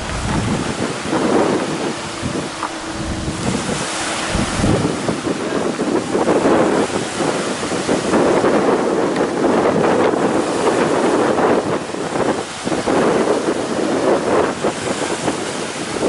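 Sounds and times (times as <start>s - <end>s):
choppy water washing: 0.0s - 16.0s
strong wind on microphone: 0.0s - 16.0s.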